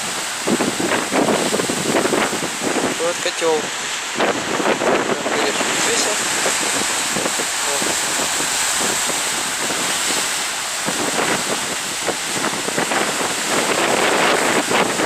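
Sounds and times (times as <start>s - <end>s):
sea waves washing ashore: 0.0s - 15.0s
wind buffeting microphone: 0.0s - 15.0s.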